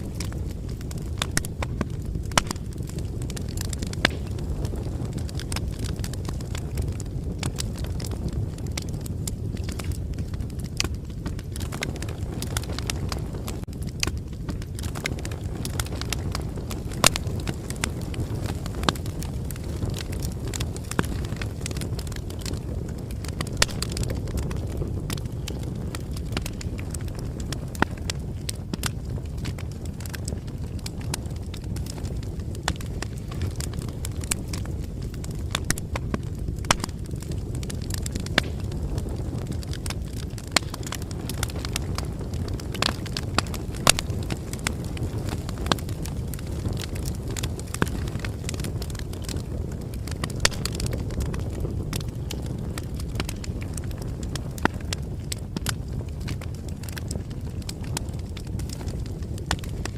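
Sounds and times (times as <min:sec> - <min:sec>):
bonfire crackling: 0:00.0 - 0:59.9
low rumble of flames: 0:00.0 - 0:59.9.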